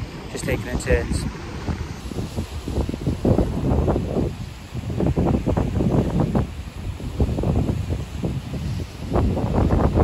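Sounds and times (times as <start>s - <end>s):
sea surf on rocks: 0.0s - 10.0s
wind buffeting microphone: 0.0s - 10.0s.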